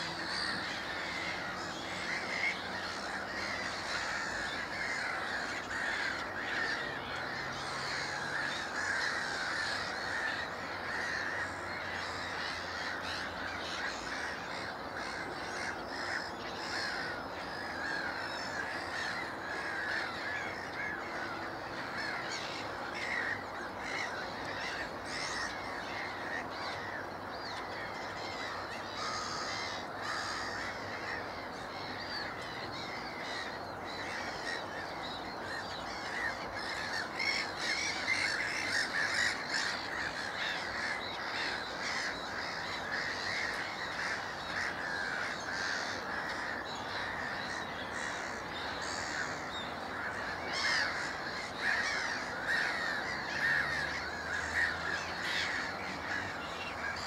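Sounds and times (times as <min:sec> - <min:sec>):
wild birds calling: 0:00.0 - 0:57.0.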